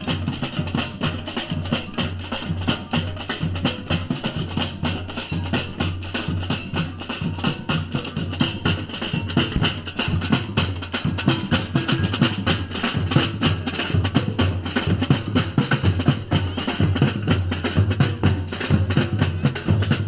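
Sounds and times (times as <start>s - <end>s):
bass drums: 0.0s - 20.0s
samba percussion ensemble: 0.0s - 20.0s.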